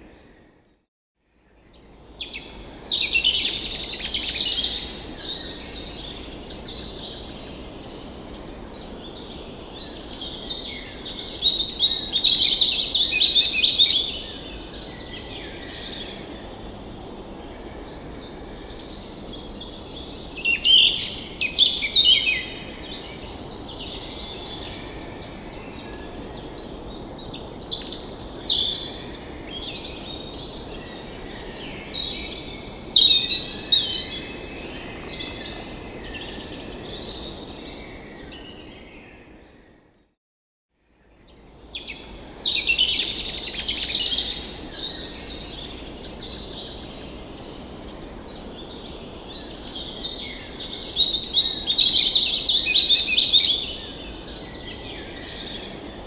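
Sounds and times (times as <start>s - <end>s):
songbirds singing: 1.4s - 39.9s, 41.0s - 56.0s.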